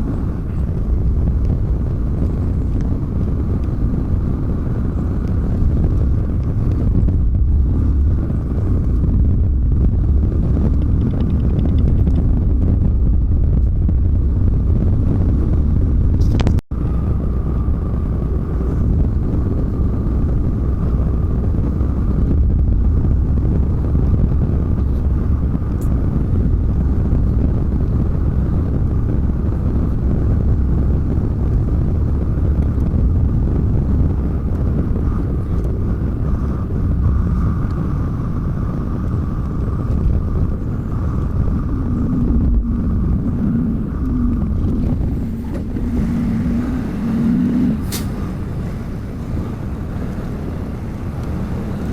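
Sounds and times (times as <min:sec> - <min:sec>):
road noise inside cab: 0:00.0 - 0:51.9
truck diesel engine rumble: 0:00.0 - 0:51.9.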